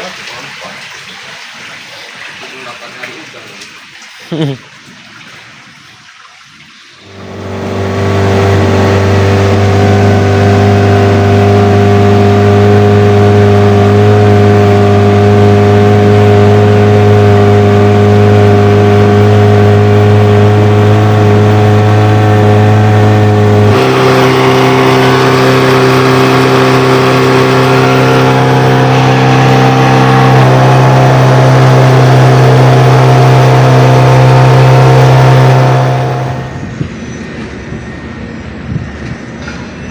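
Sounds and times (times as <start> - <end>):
boat engine running: 7.0 - 39.9.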